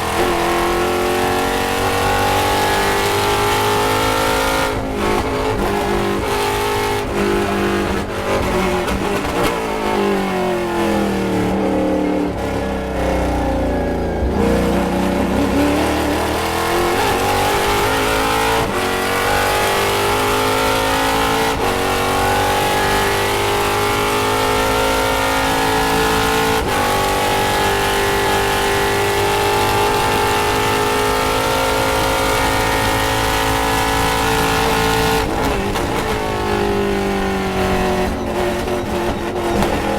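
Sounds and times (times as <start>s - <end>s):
race car engine shifting gears: 0.0s - 39.9s.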